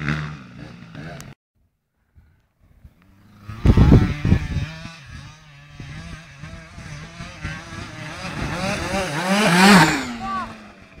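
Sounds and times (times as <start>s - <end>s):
motocross bike engine revving: 0.0s - 1.4s, 3.0s - 11.0s.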